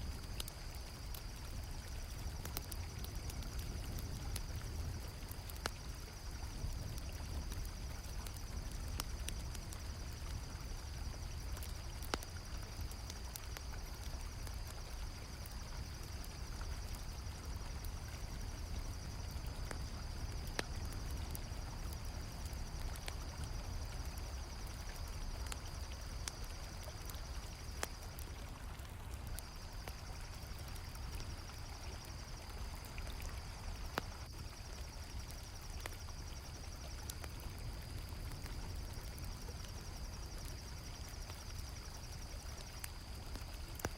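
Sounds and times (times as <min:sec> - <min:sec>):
campfire crackling and popping: 0:00.0 - 0:43.9
crickets chirping: 0:00.0 - 0:43.9.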